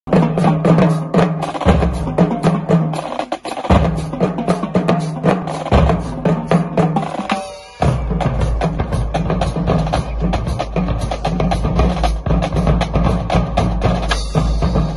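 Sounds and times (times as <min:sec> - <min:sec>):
marching drumline playing: 0:00.1 - 0:14.9.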